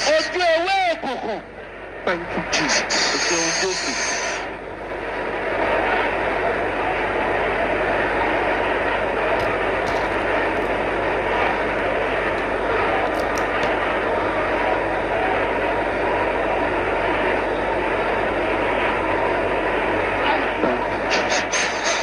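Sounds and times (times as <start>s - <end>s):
congregation praying aloud: 0.0s - 22.0s.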